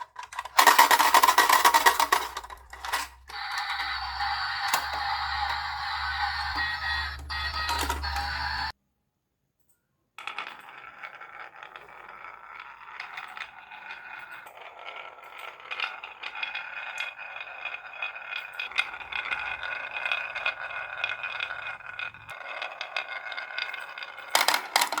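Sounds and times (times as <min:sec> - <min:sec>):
marbles clattering: 0:00.0 - 0:08.7, 0:10.2 - 0:25.0
marbles rolling on track: 0:00.0 - 0:08.7, 0:10.2 - 0:25.0.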